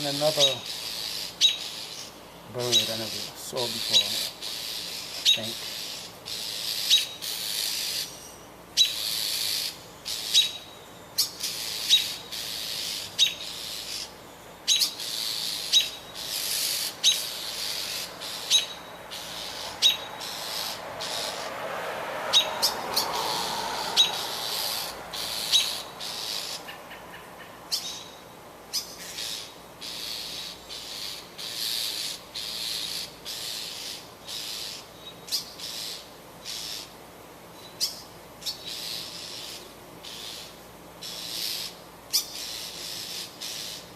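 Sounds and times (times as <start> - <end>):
bird screaming harsh calls: 0.0 - 8.2, 8.8 - 21.5, 22.3 - 36.9, 37.8 - 43.9.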